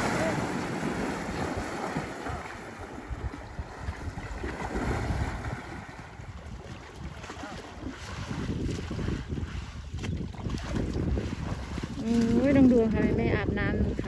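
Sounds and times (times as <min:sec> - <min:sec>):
water sloshing and splashing: 0:00.0 - 0:14.0
wind buffeting microphone: 0:00.0 - 0:14.0.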